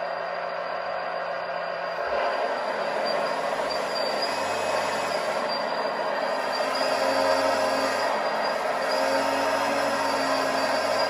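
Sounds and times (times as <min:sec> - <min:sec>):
simulated diesel engine sound: 0:00.0 - 0:11.0.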